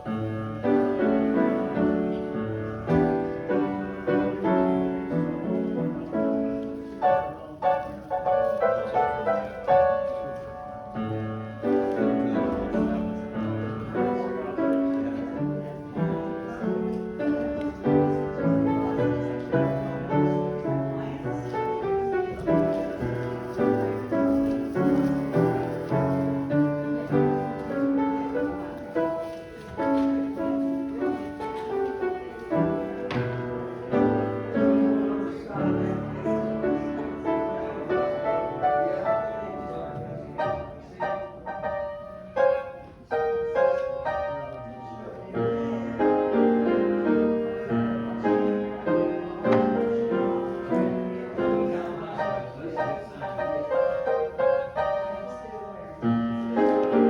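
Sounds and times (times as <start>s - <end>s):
piano playing chords: 0.0s - 57.0s.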